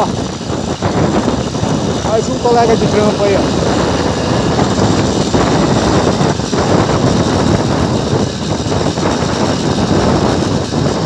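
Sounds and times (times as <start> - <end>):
bicycle rattling: 0.0 - 11.0
small engine running: 0.0 - 11.0
wind buffeting microphone: 0.0 - 11.0.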